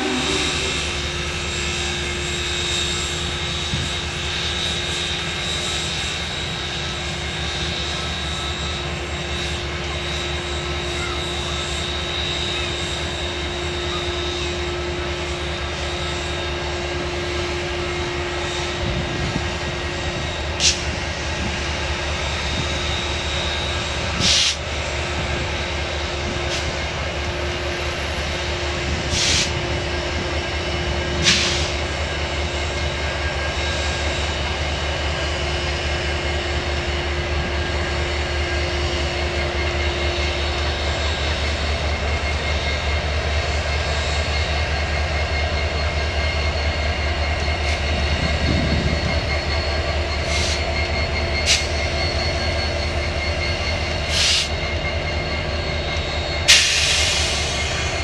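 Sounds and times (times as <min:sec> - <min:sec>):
locomotive engines droning: 0:00.0 - 0:58.0.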